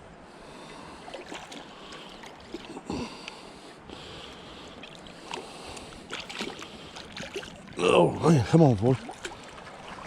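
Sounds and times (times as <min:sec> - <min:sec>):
water sloshing and splashing: 0:00.6 - 0:10.0.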